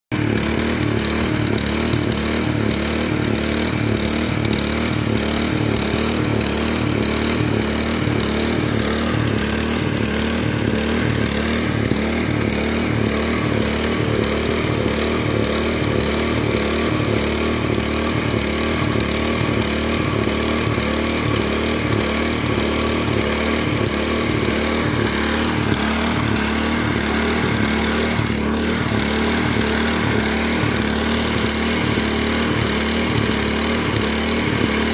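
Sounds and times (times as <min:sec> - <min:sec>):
small engine running under load: 0:00.1 - 0:34.9.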